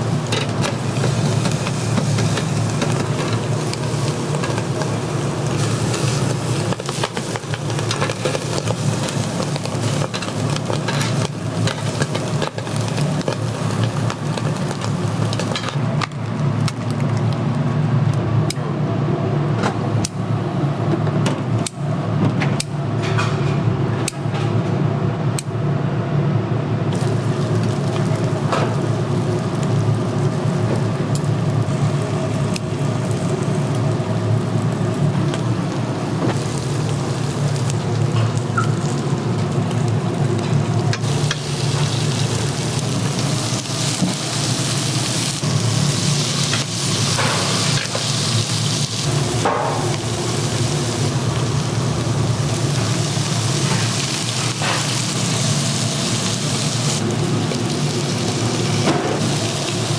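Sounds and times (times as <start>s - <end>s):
pork sizzling on a grill: 0.0s - 17.8s, 26.9s - 59.9s.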